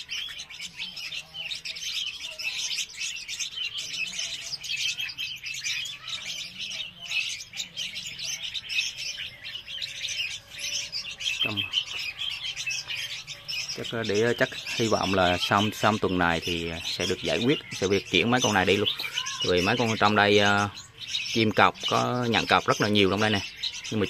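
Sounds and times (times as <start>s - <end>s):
bird chicks chirping: 0.0s - 24.0s.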